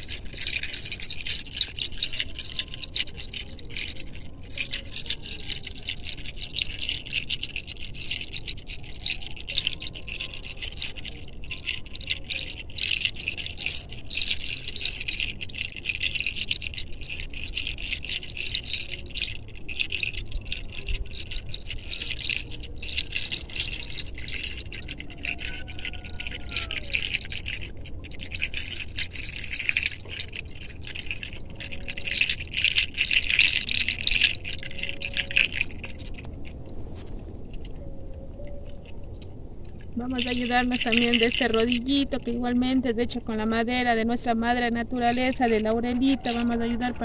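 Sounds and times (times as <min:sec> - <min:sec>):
fingertips rubbing through hair: 0:00.0 - 0:37.8, 0:45.1 - 0:47.0.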